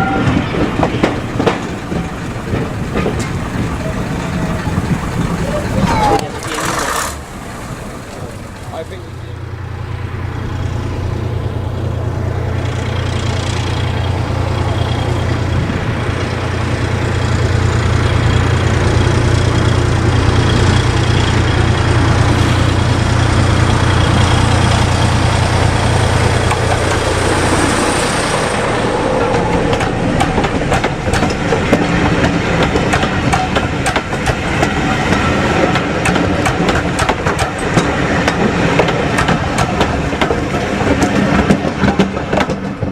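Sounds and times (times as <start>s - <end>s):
train engine drone: 0.0s - 42.9s
train wheels clattering over track: 0.0s - 42.9s.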